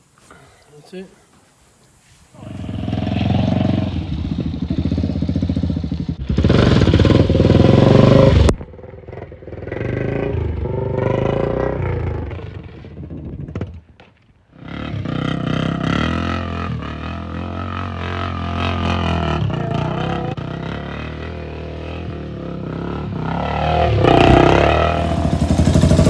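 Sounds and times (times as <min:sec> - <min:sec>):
atv engine revving: 0:02.4 - 0:13.8, 0:14.5 - 0:26.0.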